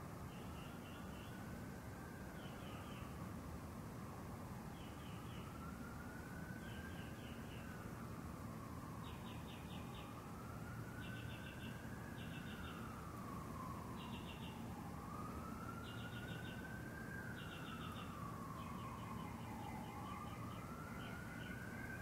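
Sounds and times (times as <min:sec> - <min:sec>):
distant siren wailing: 0:00.0 - 0:22.0.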